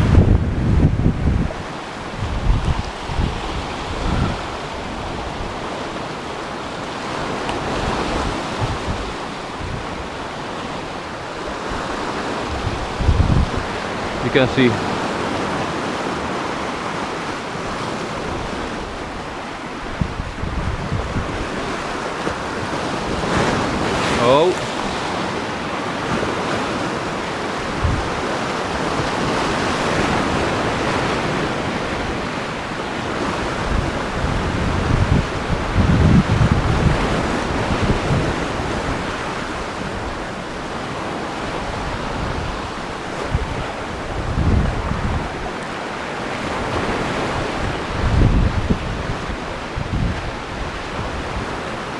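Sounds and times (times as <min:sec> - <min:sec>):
surf washing against rocks: 0:00.0 - 0:51.9
wind buffeting microphone: 0:00.0 - 0:51.9.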